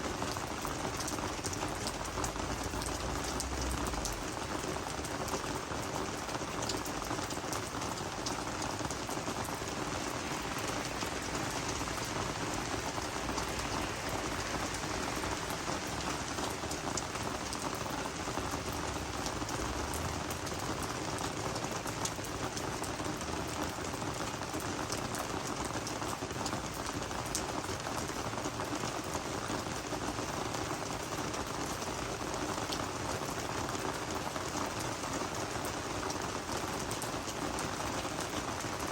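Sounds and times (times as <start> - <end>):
rain pattering on plants: 0.0 - 38.9.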